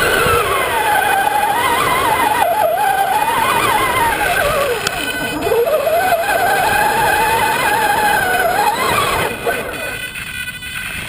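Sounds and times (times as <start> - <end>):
toy truck electric motor whine: 0.0 - 11.0.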